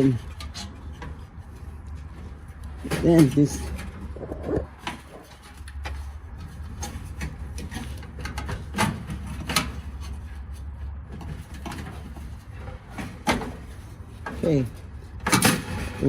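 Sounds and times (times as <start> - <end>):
low steady hum: 0.0 - 16.0
metal parts clicking and scraping: 0.0 - 16.0.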